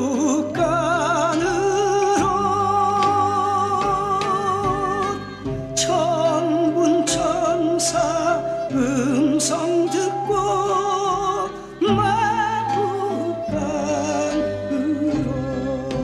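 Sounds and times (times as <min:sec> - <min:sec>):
classical voice singing with vibrato: 0:00.0 - 0:16.0
instrumental accompaniment: 0:00.0 - 0:16.0.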